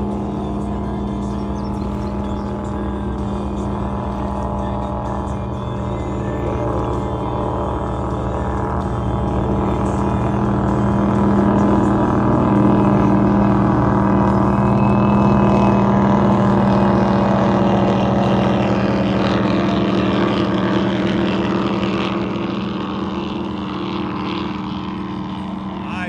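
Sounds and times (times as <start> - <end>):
powerboat engines droning: 0.0 - 26.0.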